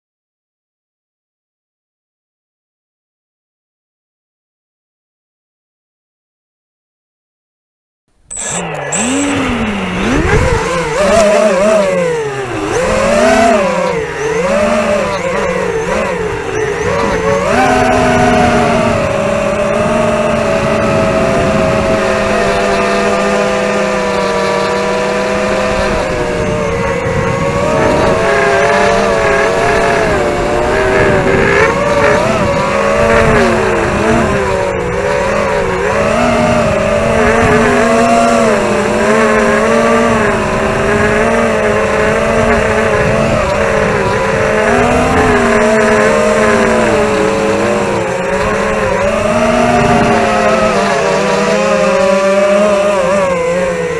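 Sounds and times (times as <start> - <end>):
drone motors buzzing whine: 8.2 - 53.9.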